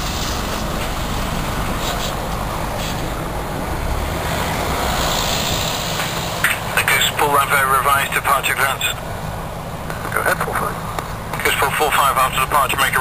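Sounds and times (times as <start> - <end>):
aircraft engine rushing: 0.0 - 13.0.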